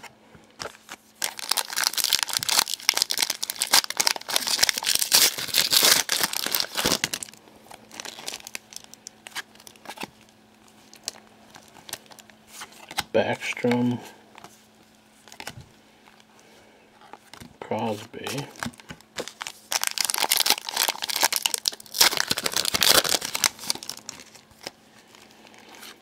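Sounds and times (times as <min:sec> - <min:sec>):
plastic wrapper crinkling and tearing: 0:00.6 - 0:13.8, 0:17.0 - 0:26.0.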